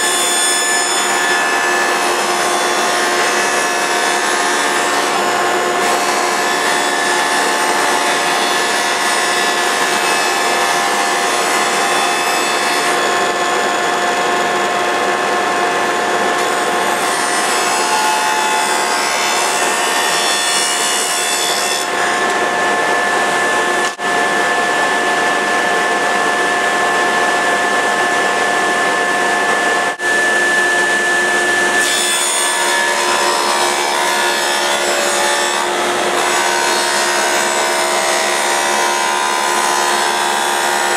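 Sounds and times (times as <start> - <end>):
woodworking power tool whining: 0.0 - 40.9.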